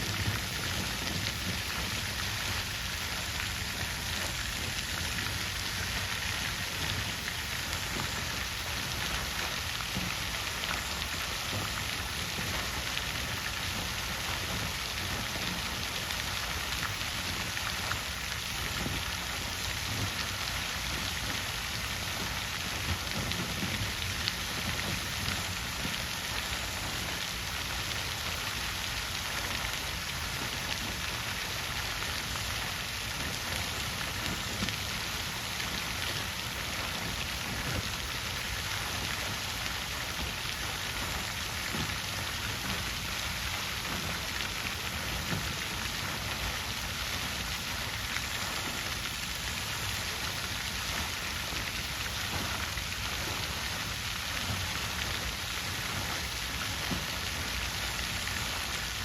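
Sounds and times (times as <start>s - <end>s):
water fountain splashing: 0.0s - 59.0s.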